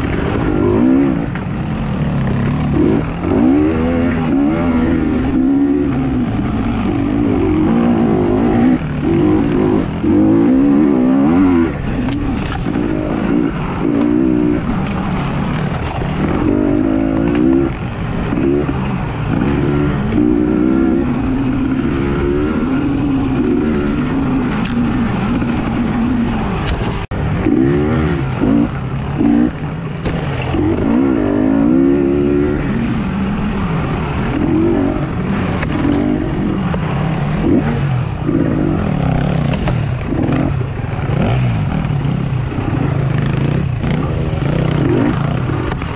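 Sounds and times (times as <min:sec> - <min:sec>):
racing engines revving: 0:00.0 - 0:45.9.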